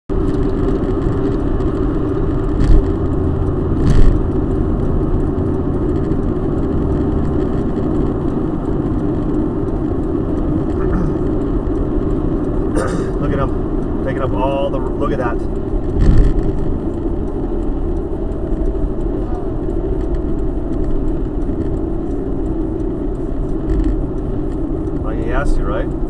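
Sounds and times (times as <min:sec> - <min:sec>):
car road and engine drone: 0:00.1 - 0:26.0.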